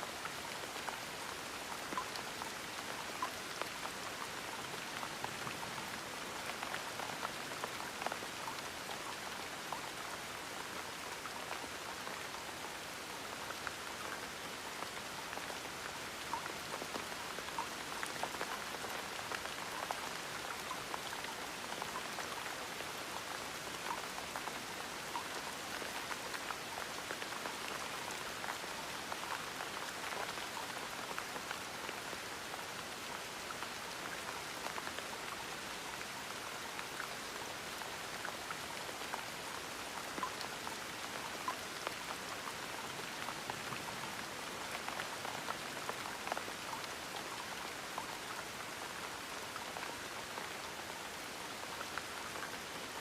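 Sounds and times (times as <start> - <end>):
gentle rain pattering: 0.0 - 53.0
raindrops ticking on a surface: 0.1 - 53.0.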